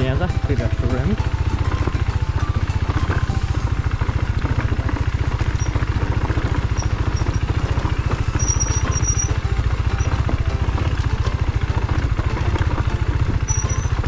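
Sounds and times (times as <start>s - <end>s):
motorcycle engine running low revs: 0.0s - 14.0s.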